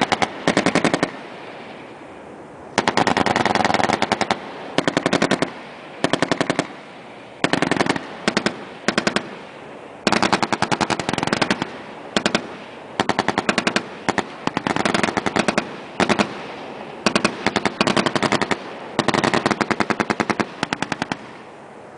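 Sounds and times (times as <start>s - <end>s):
machine gun firing bursts: 0.0s - 1.3s, 2.8s - 21.4s.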